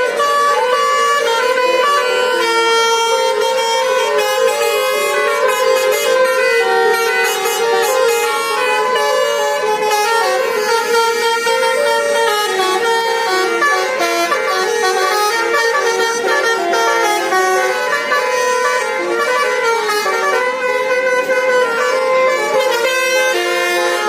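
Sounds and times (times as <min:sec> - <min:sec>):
multi-tone musical bus horns: 0:00.0 - 0:24.0.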